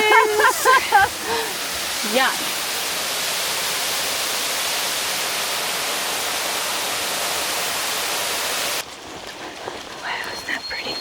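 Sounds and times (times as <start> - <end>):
waterfall pouring: 0.0 - 9.2.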